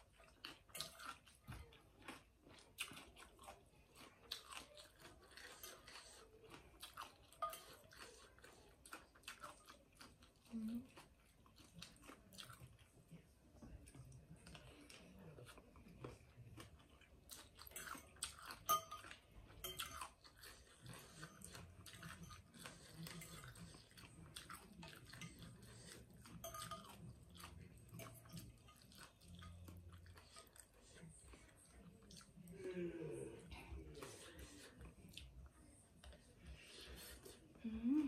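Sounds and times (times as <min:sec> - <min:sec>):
person chewing noodles: 0:00.0 - 0:38.0.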